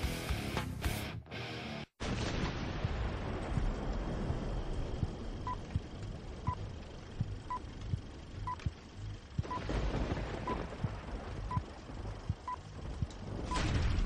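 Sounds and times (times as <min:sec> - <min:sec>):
film crackle and pops: 0:02.0 - 0:14.0.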